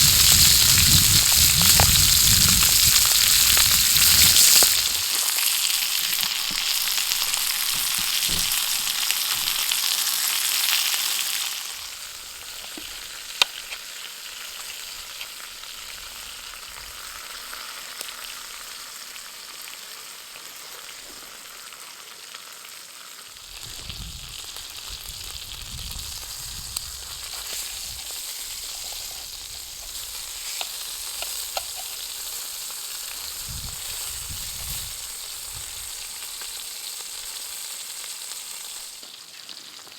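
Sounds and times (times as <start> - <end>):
steak sizzling over fire: 0.0 - 39.9.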